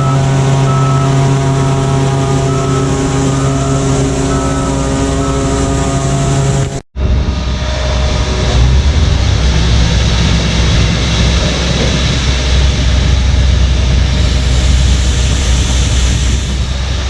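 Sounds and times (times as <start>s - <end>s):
diesel farm machinery engine running: 0.0s - 17.0s.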